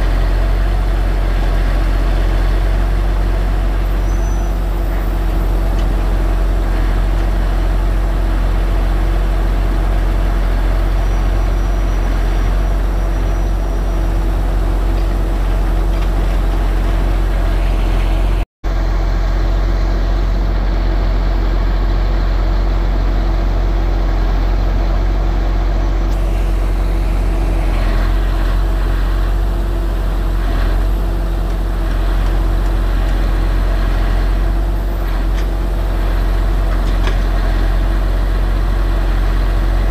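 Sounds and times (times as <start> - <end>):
loud mechanical hum: 0.0 - 39.9.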